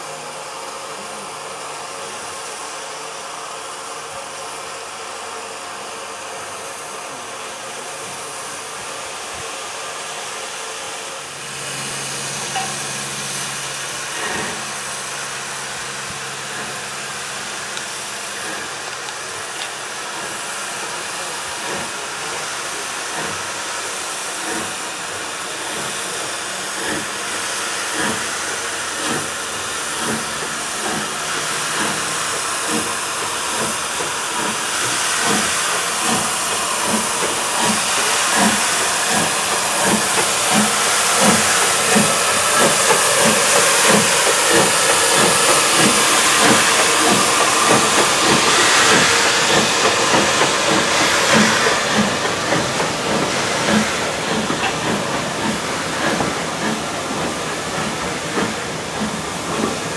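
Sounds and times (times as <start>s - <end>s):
steam hissing: 0.0s - 59.9s
steam locomotive exhaust beats: 0.0s - 59.9s.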